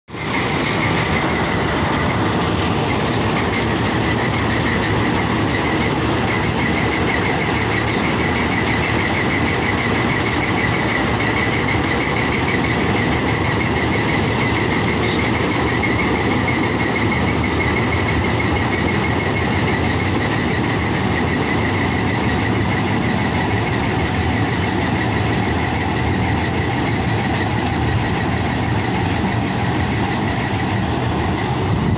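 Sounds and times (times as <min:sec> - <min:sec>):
combine harvester droning: 0:00.1 - 0:31.9
steady high whine: 0:00.1 - 0:31.9.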